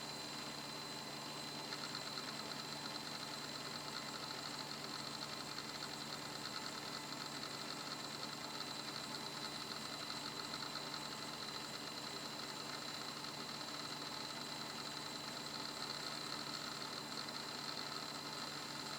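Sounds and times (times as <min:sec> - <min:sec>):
hard disk drive whine: 0:00.0 - 0:18.9.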